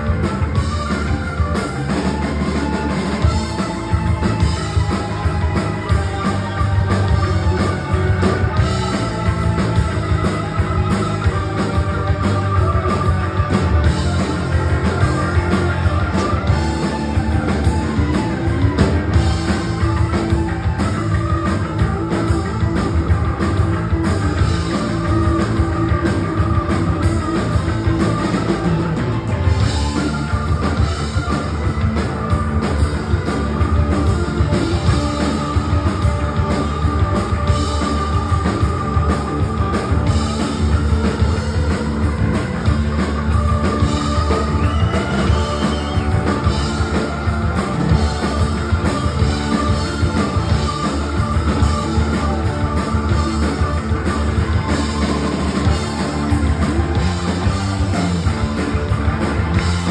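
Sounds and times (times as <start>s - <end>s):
electric organ solo: 0.0s - 59.9s
live rock band: 0.0s - 59.9s.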